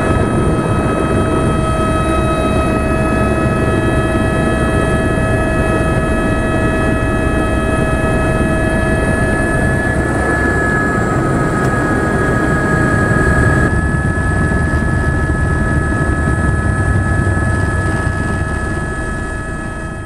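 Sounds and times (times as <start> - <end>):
helicopter turbine whine: 0.0 - 20.0
rotor and wind rumble: 0.0 - 20.0.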